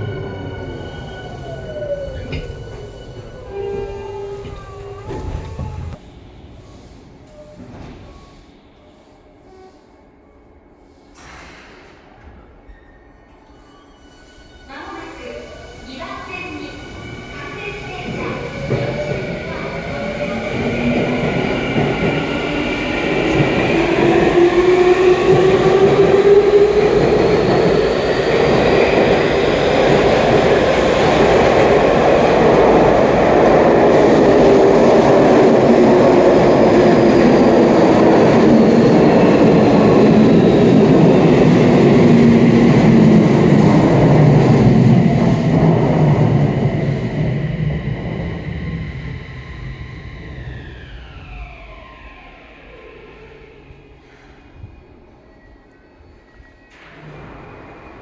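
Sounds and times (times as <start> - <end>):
second train rolling past: 0.0 - 58.0.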